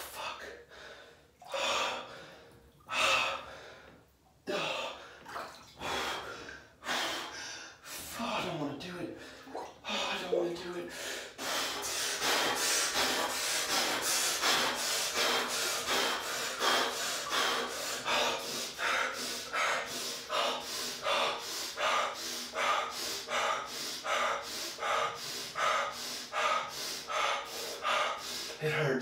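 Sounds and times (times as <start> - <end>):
man breathing fast and heavy: 0.0 - 5.2, 5.8 - 29.0.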